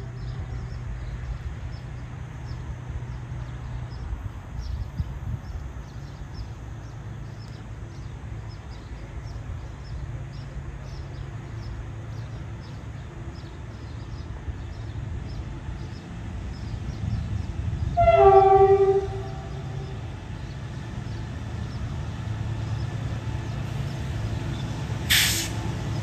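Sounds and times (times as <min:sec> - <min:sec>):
distant diesel locomotive rumble: 0:00.0 - 0:26.0.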